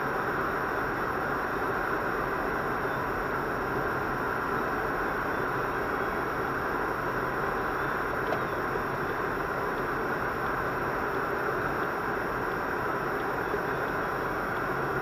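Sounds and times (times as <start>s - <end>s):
car driving road noise: 0.0s - 15.0s.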